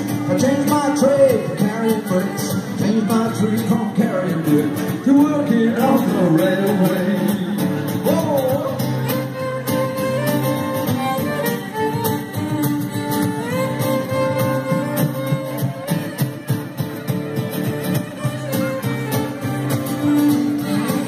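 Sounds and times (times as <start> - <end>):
strummed acoustic guitar: 0.0 - 21.0
held melody line: 0.1 - 21.0.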